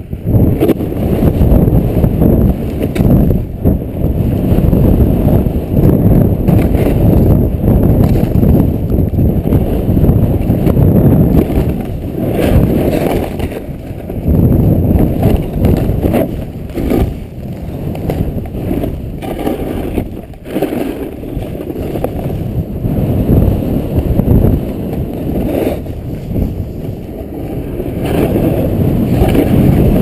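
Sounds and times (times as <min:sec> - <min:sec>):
snowboard riding through powder: 0:00.0 - 0:30.0
wind rumble on microphone: 0:00.0 - 0:30.0.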